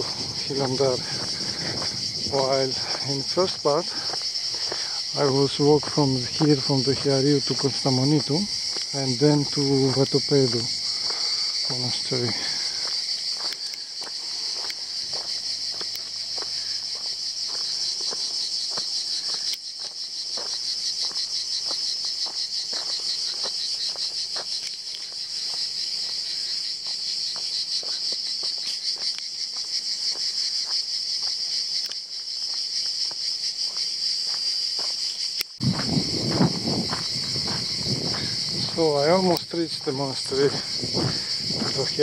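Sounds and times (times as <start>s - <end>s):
cicadas buzzing: 0.0s - 42.0s
footsteps on stony dirt track: 0.0s - 42.0s.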